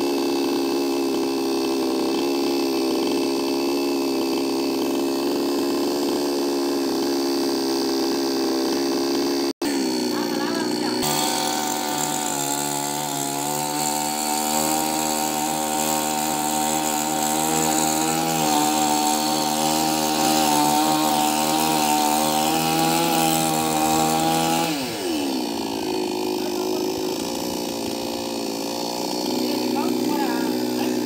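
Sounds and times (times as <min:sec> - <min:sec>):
chainsaw cutting branches: 0:00.0 - 0:31.0.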